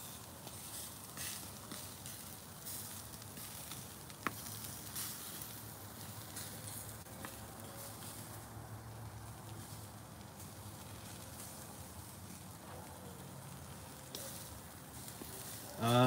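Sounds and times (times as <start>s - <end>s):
meat sizzling on grill: 0.0s - 12.6s, 13.4s - 16.0s.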